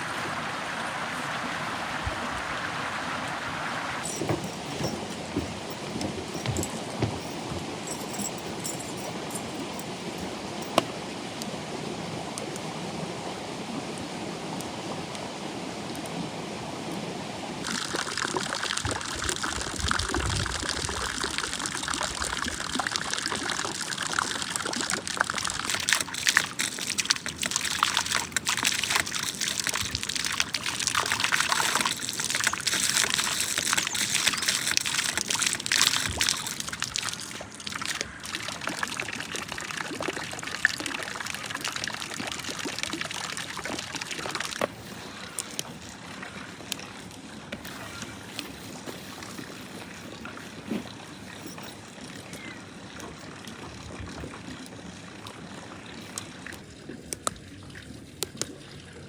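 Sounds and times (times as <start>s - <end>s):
running water splashing: 0.0s - 11.9s, 17.5s - 59.0s.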